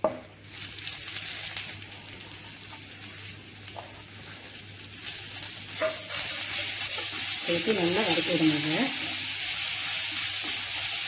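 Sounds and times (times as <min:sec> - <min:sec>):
leaves sizzling in hot oil: 0:00.4 - 0:11.0.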